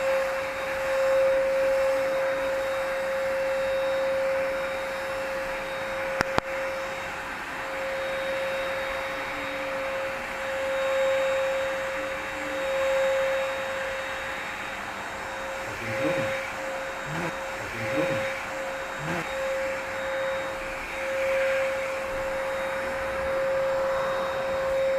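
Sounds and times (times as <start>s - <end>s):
stick vacuum cleaner running: 0.0s - 24.9s.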